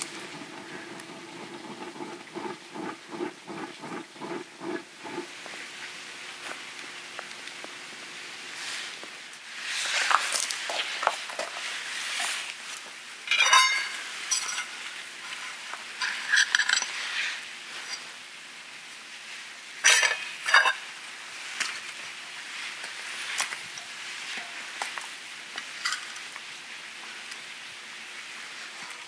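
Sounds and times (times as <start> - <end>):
low steady hiss: 0.0 - 29.0.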